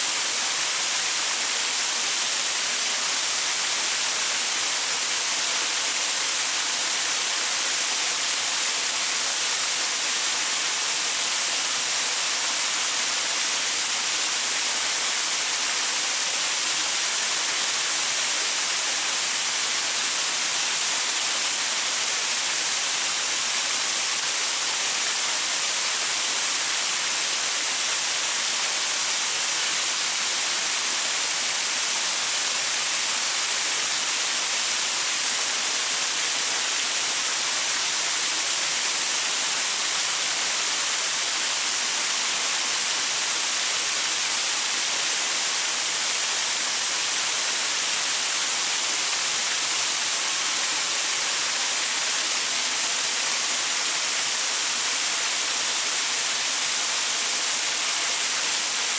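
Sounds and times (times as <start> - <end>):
waterfall pouring over rocks: 0.0 - 58.9.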